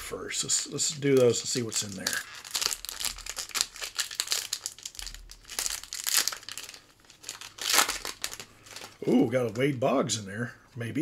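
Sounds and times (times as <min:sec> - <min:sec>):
foil wrapper crinkling: 0:00.4 - 0:09.8.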